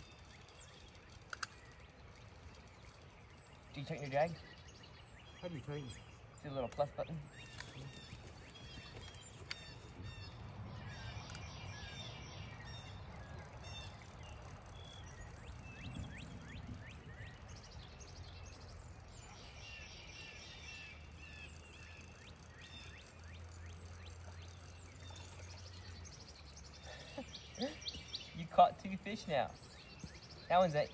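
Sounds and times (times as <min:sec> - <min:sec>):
bird trills: 0:00.0 - 0:30.9
birds chirping and calling: 0:00.0 - 0:30.9.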